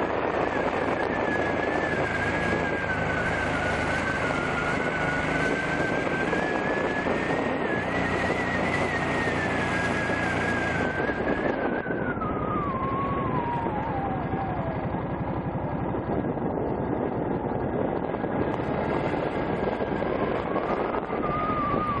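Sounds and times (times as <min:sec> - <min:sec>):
motorcycle engine whine: 0:00.0 - 0:22.0.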